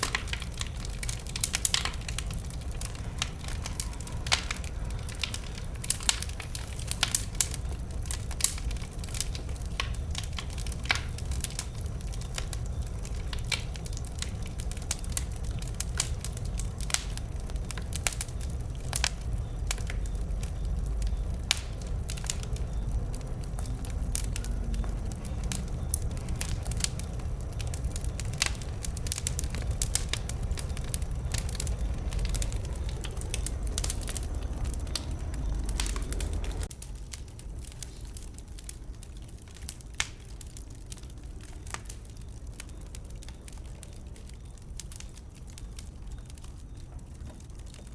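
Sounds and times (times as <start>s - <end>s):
bonfire crackling and popping: 0.0s - 47.9s
low fire rumble: 0.0s - 47.9s.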